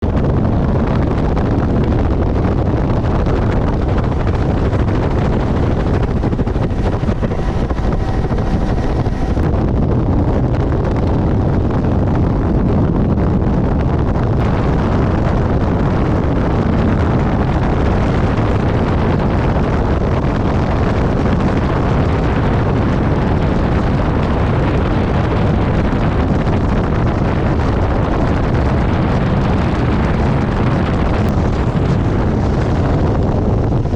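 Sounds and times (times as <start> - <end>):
helicopter rotor and engine rumble: 0.0 - 33.9
wind buffeting microphone: 0.0 - 33.9.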